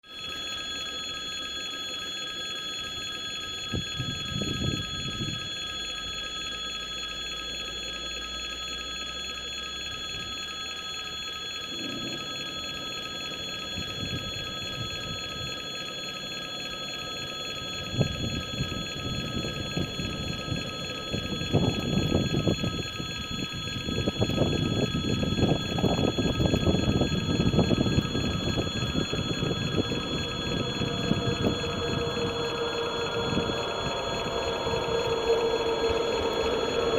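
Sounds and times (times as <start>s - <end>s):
high-pitched multi-tone whine: 0.0s - 36.9s.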